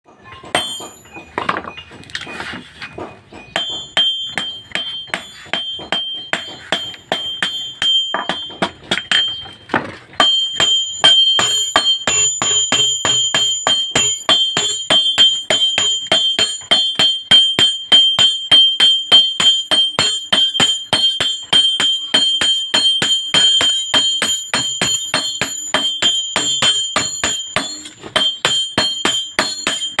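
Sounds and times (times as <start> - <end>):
hammer striking metal blade: 0.4 - 1.3, 2.8 - 30.0.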